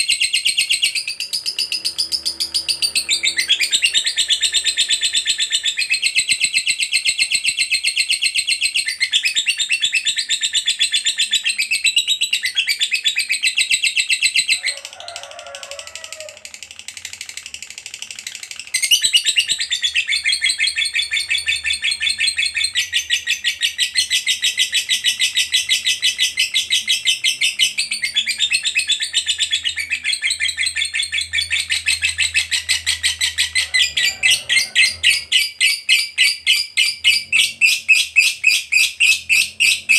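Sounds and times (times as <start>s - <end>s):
lovebird chattering: 0.0s - 15.2s, 16.4s - 39.9s.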